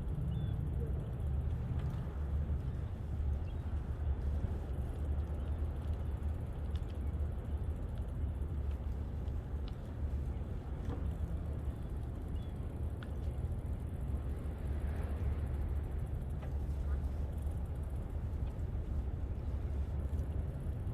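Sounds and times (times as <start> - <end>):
faint ticks: 0.0 - 20.9
wind buffeting microphone: 0.0 - 20.9.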